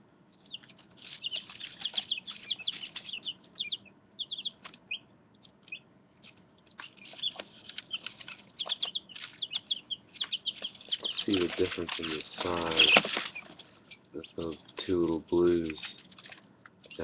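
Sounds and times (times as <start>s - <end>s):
chicks peeping: 0.3s - 17.0s.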